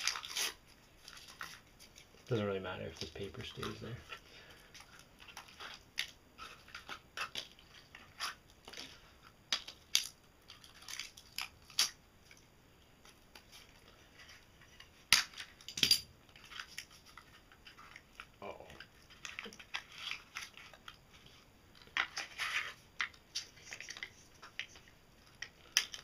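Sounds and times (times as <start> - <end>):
plastic wrap crinkling and crackling: 0.0 - 26.0.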